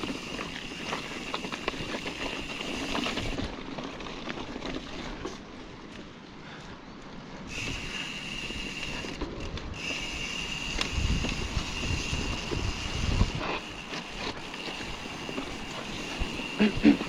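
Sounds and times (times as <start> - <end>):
bike rolling over rough dirt: 0.0 - 17.0.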